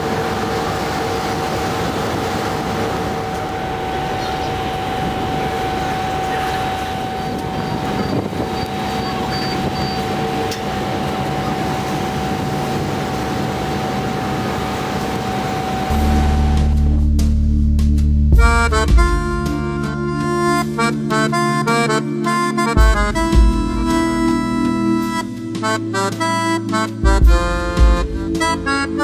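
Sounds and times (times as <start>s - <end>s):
ship engines droning: 0.0s - 17.7s, 18.4s - 29.0s
deep engine note: 0.0s - 29.0s.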